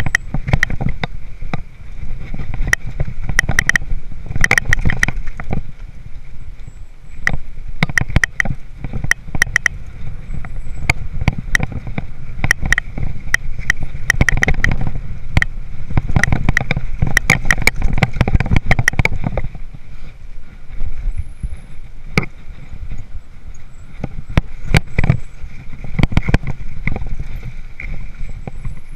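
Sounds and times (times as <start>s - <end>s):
bike metallic rattles and clicks: 0.0s - 28.9s
tyres rumbling on trail: 0.0s - 28.9s
wind: 0.0s - 28.9s.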